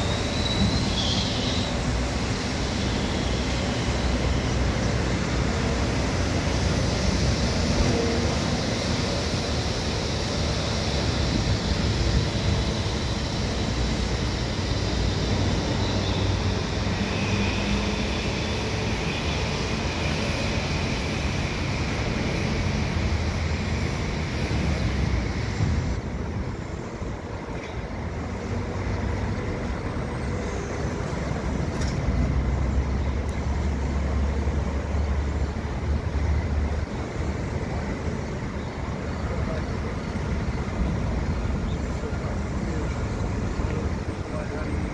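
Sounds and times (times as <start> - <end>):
city traffic noise: 0.0 - 44.9
train wheels rumbling on rails: 0.0 - 44.9.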